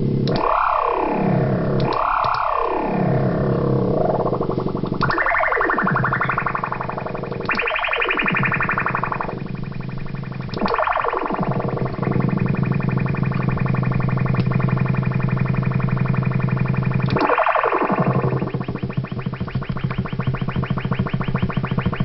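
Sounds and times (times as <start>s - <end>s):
harsh buzzing synthesized tone: 0.0s - 22.0s.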